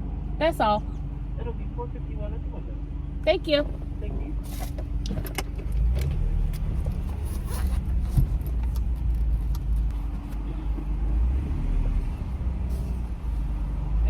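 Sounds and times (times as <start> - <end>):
car engine rumble from inside: 0.0 - 14.0.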